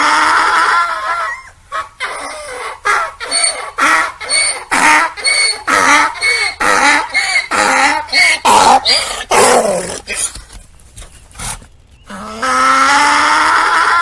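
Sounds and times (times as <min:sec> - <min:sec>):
donkey braying: 0:00.0 - 0:10.5, 0:12.1 - 0:14.0.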